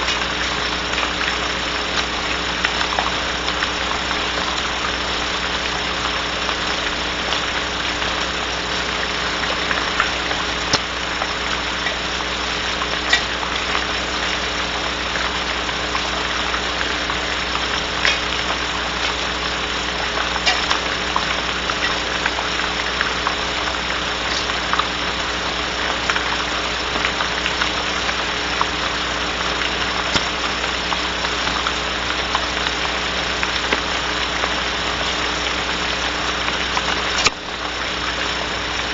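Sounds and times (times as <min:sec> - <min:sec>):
low electrical hum: 0:00.0 - 0:38.9
rain hiss: 0:00.0 - 0:38.9.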